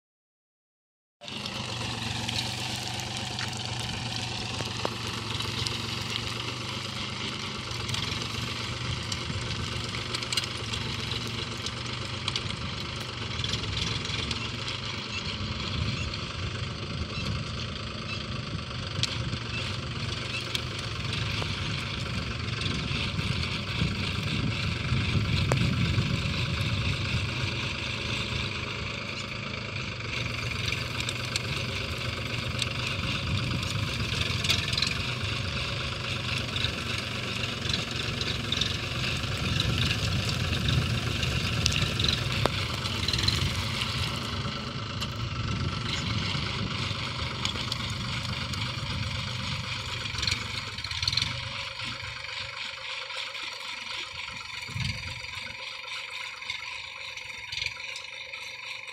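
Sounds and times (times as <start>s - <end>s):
diesel tractor engine running: 1.2s - 58.9s.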